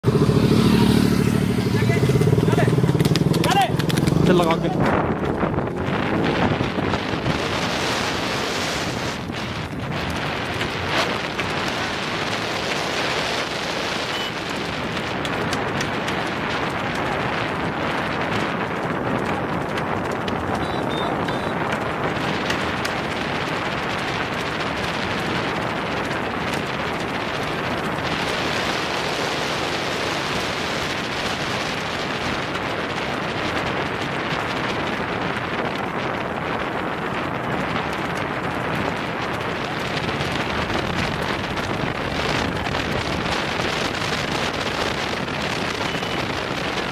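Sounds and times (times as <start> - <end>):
road noise: 0.0 - 46.9
wind buffeting microphone: 0.0 - 46.9.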